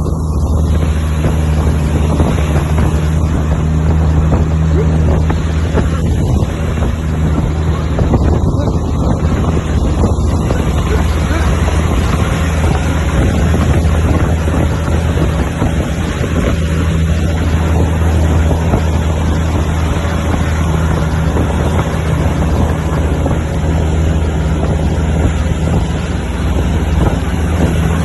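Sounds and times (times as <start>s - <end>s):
diesel truck engine droning: 0.0s - 28.0s
wind on microphone: 0.0s - 28.0s.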